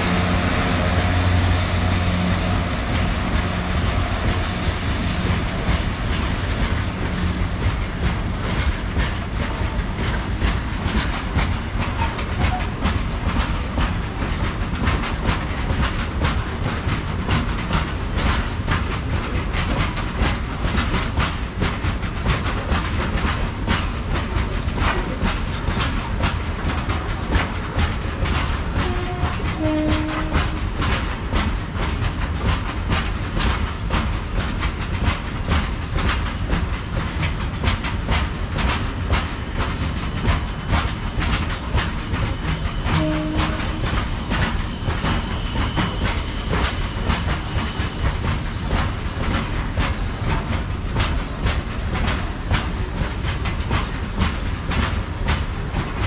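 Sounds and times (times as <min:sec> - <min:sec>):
deep train rumble: 0:00.0 - 0:56.0
train wheels clickety-clack: 0:00.0 - 0:56.0.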